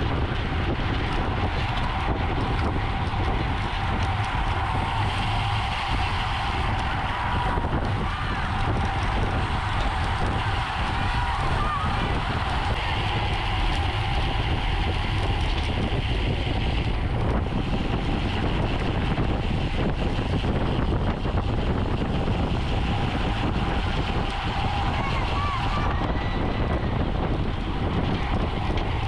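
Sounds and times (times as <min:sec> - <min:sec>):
tyres rumbling on road: 0:00.0 - 0:29.0
wind buffeting microphone: 0:00.0 - 0:29.0.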